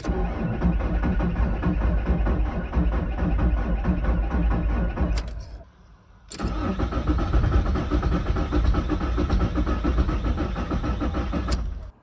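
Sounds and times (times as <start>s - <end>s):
diesel engine cranking on starter: 0.0s - 5.6s, 6.3s - 12.0s.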